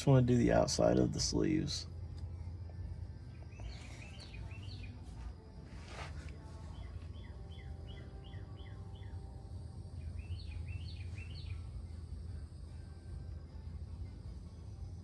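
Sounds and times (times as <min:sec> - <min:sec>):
songbird chirping: 0:00.0 - 0:12.9
steady low hum: 0:00.0 - 0:15.0.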